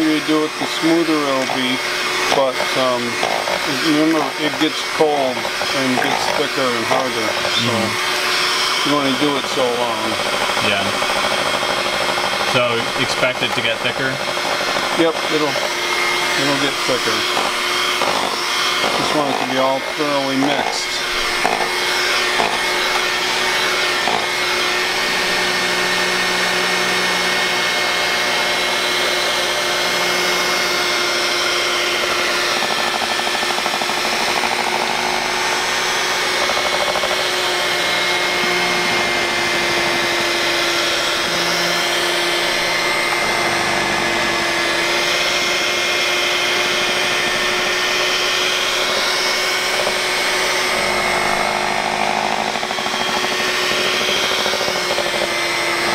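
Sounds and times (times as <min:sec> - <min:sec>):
electric hand mixer whirring: 0:00.0 - 0:55.9.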